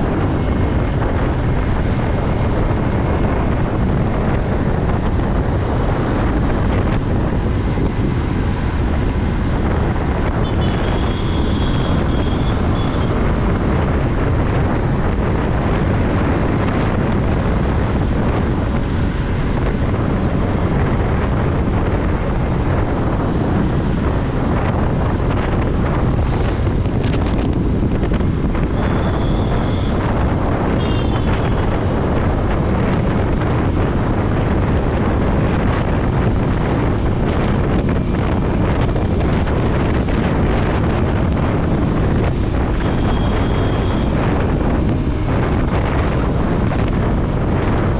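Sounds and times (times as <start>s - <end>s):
motorcycle running: 0.0s - 47.9s
road noise: 0.0s - 47.9s
wind rushing over microphone: 0.0s - 47.9s.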